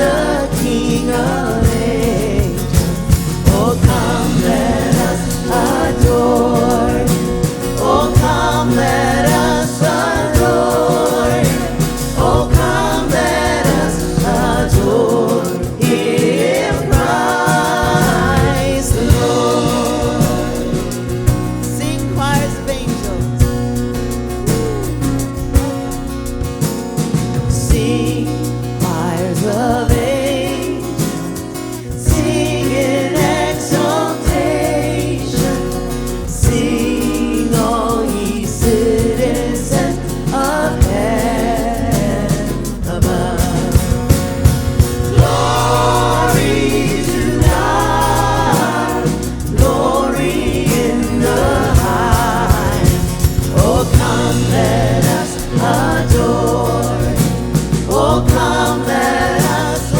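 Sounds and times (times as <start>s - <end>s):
singers holding wavering notes: 0.0s - 31.3s, 32.0s - 59.9s
band playing chords and beat: 0.0s - 59.9s.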